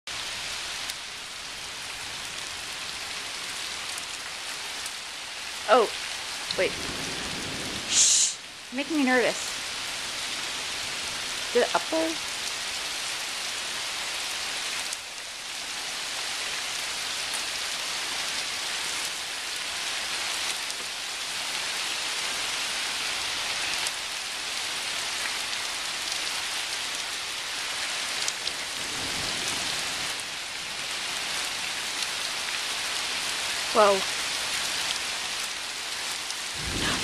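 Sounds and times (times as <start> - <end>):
heavy rain hissing: 0.1 - 37.0.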